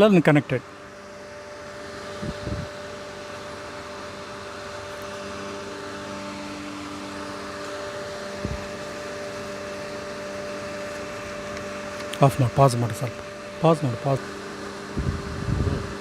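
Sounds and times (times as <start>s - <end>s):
machinery drone with hum tones: 0.0s - 16.0s.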